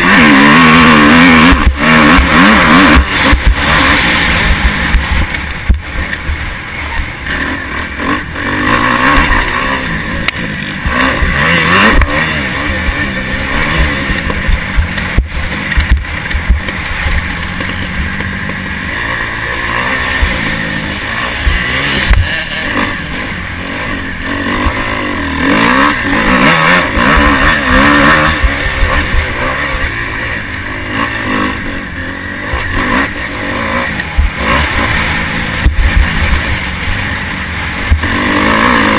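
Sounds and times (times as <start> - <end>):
motocross bike engine revving: 0.0 - 38.9
rough low rumble: 0.6 - 38.9.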